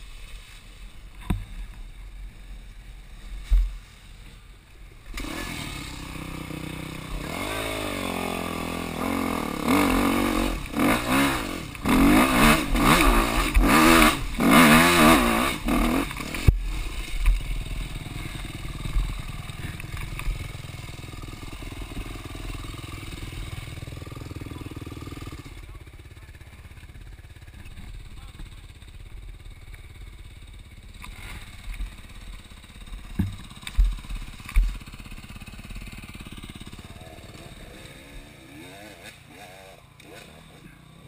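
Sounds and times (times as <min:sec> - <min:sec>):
dirt bike engine idling: 0:00.0 - 0:41.0
dirt bike engine revving: 0:05.0 - 0:41.0.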